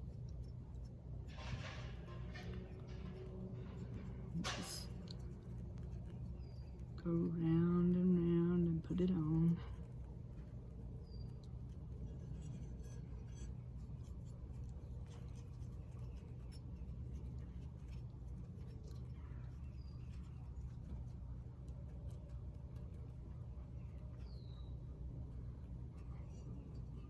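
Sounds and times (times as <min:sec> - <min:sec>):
rubbing and light ticking on metal: 0:00.0 - 0:27.0
steady low hum: 0:00.0 - 0:27.0.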